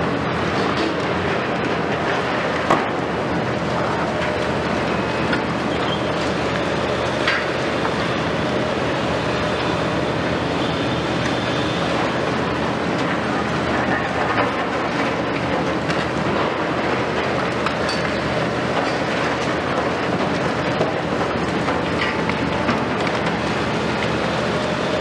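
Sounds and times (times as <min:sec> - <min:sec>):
excavator diesel engines running: 0:00.0 - 0:25.0.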